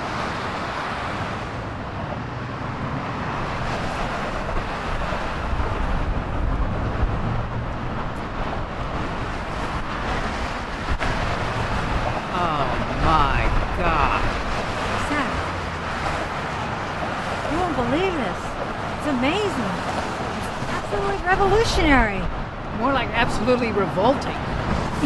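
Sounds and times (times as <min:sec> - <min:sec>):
road traffic rumble: 0:00.0 - 0:25.0
wind buffeting microphone: 0:00.0 - 0:25.0.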